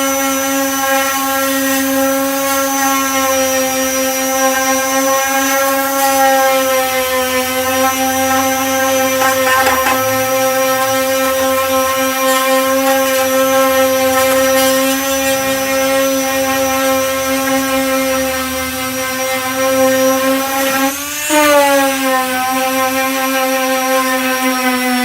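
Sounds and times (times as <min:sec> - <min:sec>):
power sander whining: 0:00.0 - 0:25.0.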